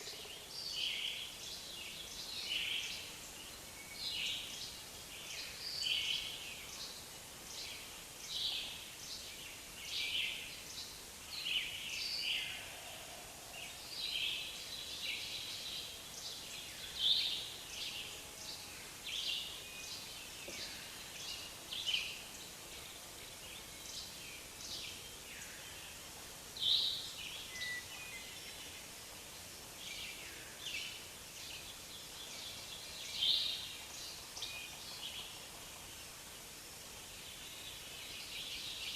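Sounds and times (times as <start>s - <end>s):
faint background hiss: 0.0s - 38.9s
songbirds chirping: 0.0s - 38.9s.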